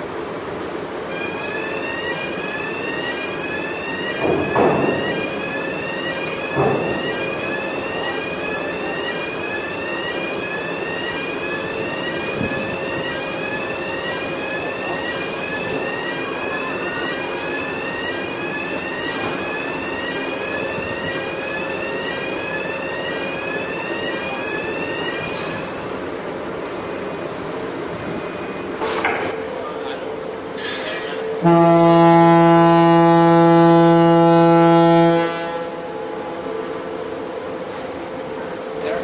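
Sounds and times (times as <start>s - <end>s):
ship machinery humming: 0.0s - 39.0s.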